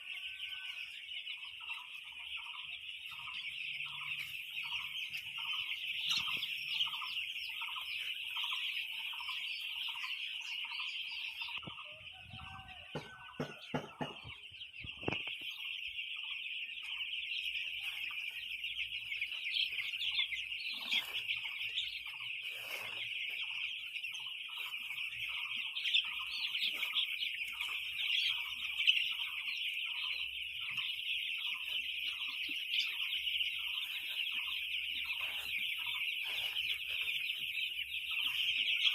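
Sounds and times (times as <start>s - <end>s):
chickens clucking: 0.0s - 38.9s
chicks peeping: 0.0s - 38.9s.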